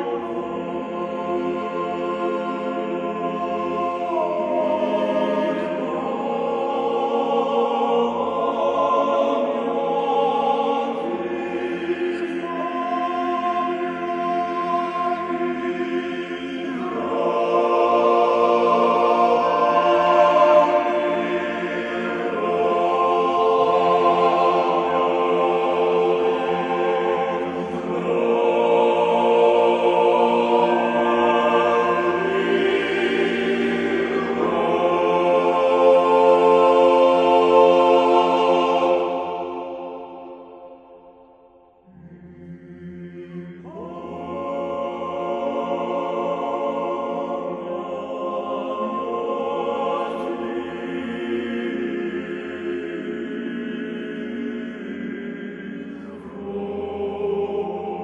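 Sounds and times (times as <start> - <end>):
men's choir chanting a cappella: 0.0 - 58.0.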